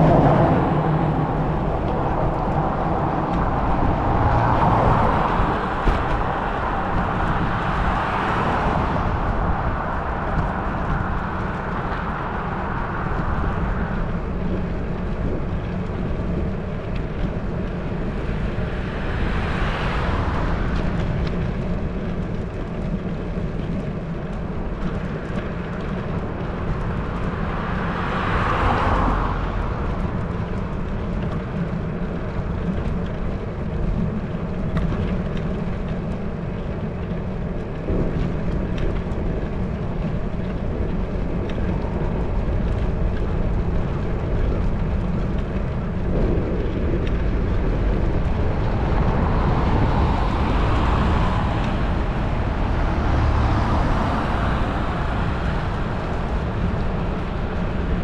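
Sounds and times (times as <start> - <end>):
road rumble: 0.0 - 58.0
vehicles passing: 0.0 - 58.0
wind on microphone: 0.0 - 58.0.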